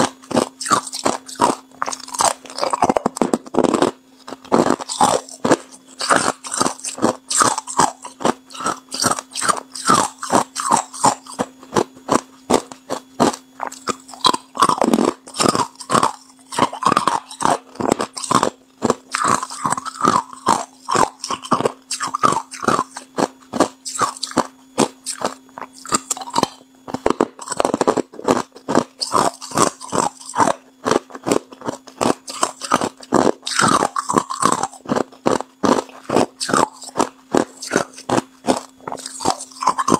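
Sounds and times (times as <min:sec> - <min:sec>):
ice being chewed: 0:00.0 - 0:39.9
steady low hum: 0:00.0 - 0:39.9.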